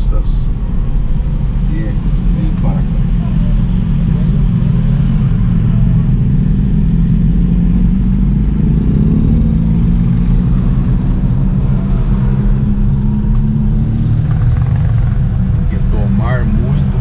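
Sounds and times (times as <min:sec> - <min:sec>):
vehicle engine running low: 0:00.0 - 0:17.0.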